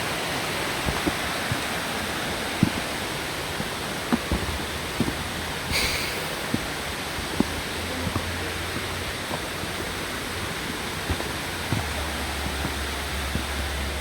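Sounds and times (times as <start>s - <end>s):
creek flowing over rocks: 0.0s - 14.0s.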